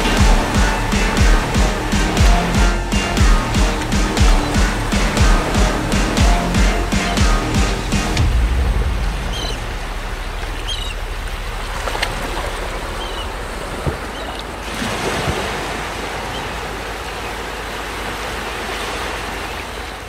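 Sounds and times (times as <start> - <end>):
waves washing onto beach: 0.0 - 20.0.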